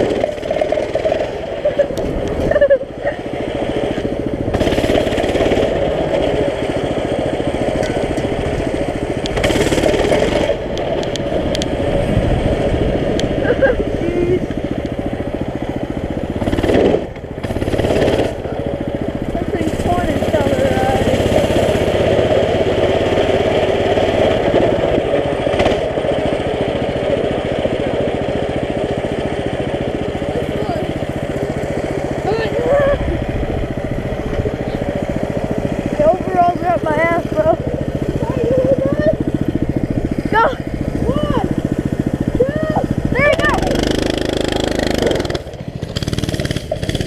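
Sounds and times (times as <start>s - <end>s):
mini bike engine running: 0.0s - 47.0s.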